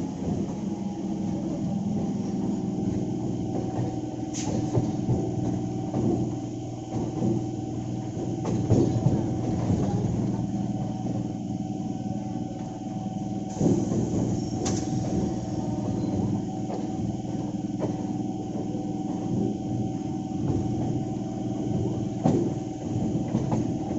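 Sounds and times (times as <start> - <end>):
electric train hum: 0.0 - 23.9.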